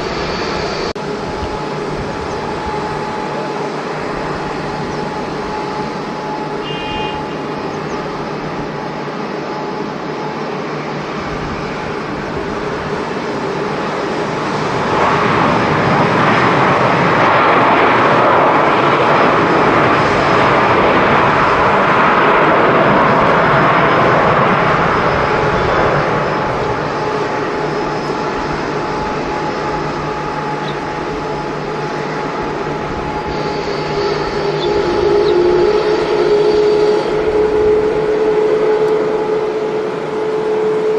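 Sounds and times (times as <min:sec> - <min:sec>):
jet engines passing by: 0:00.0 - 0:40.9.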